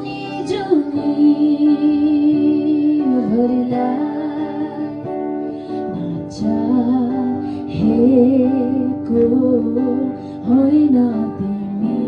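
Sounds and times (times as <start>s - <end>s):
guitar accompaniment: 0.0s - 12.0s.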